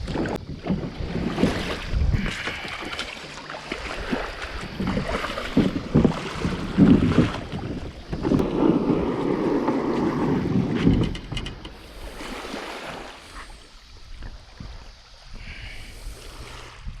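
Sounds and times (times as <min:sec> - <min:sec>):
wind buffeting microphone: 0:00.0 - 0:03.1, 0:03.8 - 0:17.0
water sloshing: 0:00.0 - 0:17.0.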